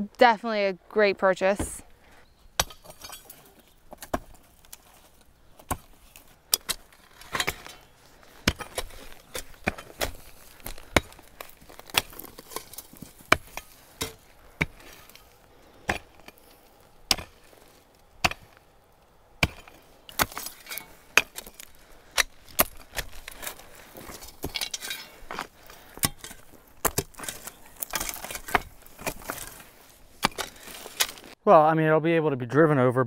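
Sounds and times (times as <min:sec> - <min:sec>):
pickaxe striking dirt and stones: 0:02.6 - 0:18.7, 0:19.3 - 0:31.4
shovel scraping: 0:02.6 - 0:18.7, 0:19.4 - 0:31.4.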